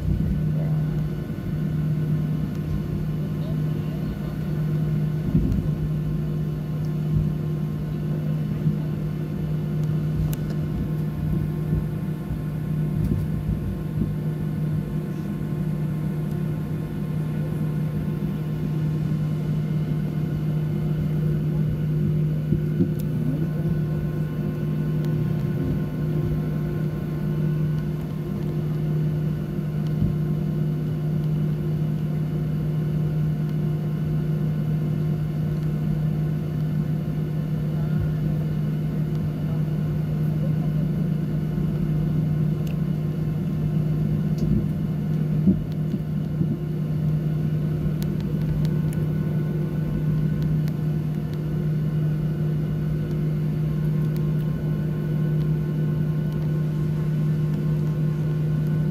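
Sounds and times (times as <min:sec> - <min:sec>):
jet engines idling in cabin: 0:00.0 - 0:58.9.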